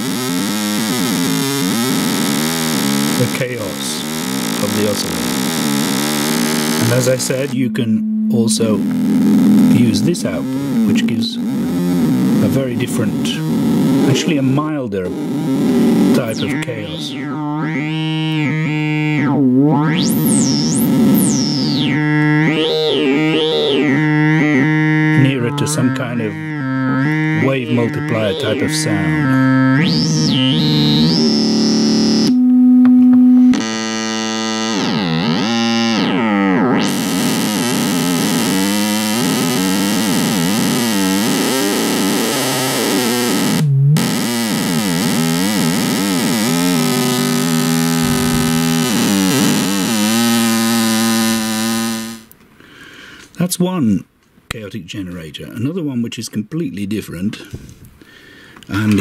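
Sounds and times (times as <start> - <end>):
buzzy synthesizer tone: 0.0 - 52.4.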